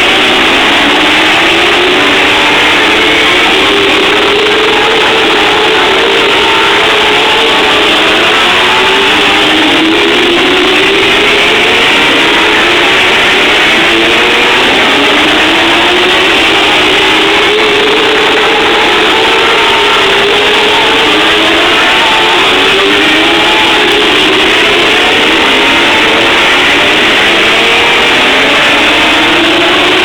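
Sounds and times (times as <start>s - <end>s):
race car engines: 0.0s - 30.0s.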